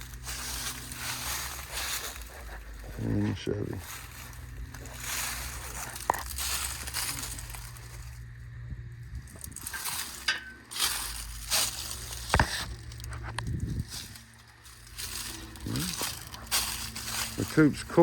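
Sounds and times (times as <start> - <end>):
footsteps crunching on dry ground: 0.0 - 18.0.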